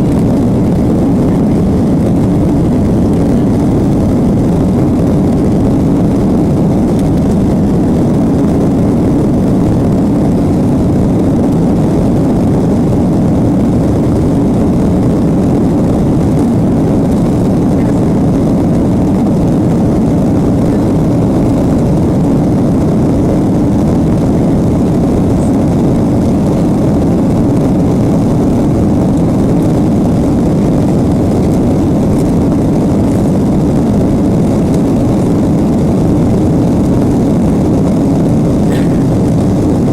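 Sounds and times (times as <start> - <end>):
jet engines in airplane cabin: 0.0 - 39.9.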